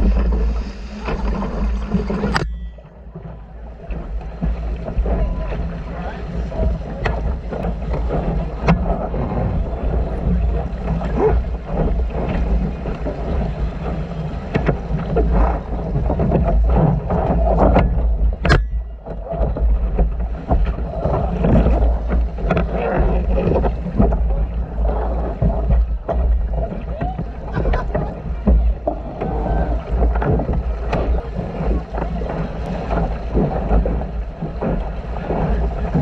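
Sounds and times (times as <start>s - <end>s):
water rushing along hull: 0.0s - 36.0s
wind buffeting microphone: 0.0s - 36.0s.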